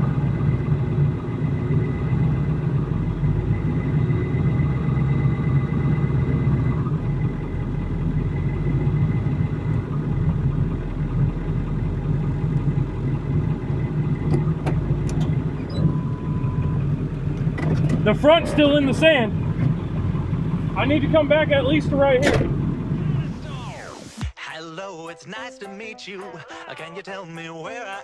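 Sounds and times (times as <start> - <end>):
vehicle engine running: 0.0 - 23.9.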